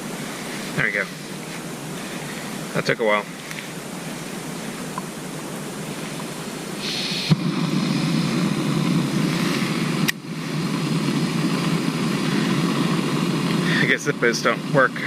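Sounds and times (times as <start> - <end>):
camping stove burner roaring hiss: 0.0 - 15.0.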